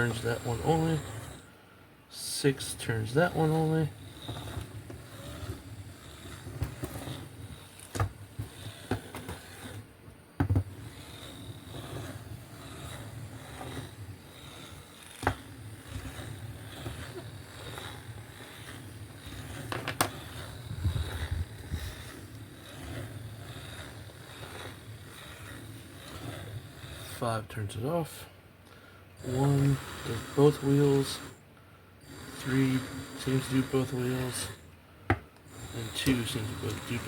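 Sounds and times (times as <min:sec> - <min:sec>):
small electric motors running: 0:00.0 - 0:28.2, 0:29.2 - 0:31.4, 0:32.0 - 0:34.7, 0:35.4 - 0:37.0.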